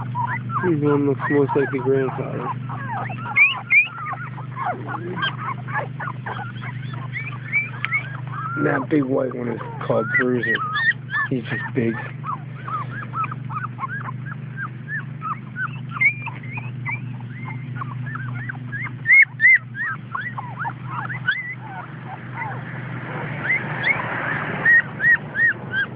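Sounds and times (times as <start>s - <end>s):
puppies whimpering and yelping: 0.0s - 25.9s
steady low hum: 0.0s - 25.9s.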